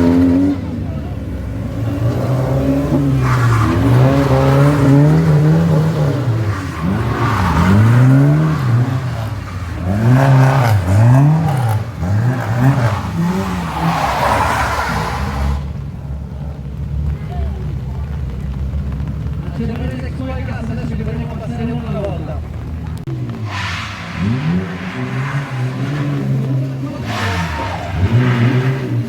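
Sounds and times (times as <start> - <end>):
tyres squealing and skidding: 0.0 - 16.5, 17.1 - 29.0
car engine revving: 0.0 - 29.0.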